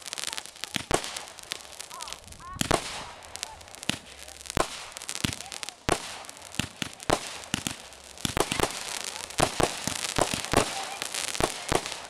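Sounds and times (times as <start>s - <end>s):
fireworks popping and banging: 0.0s - 12.0s.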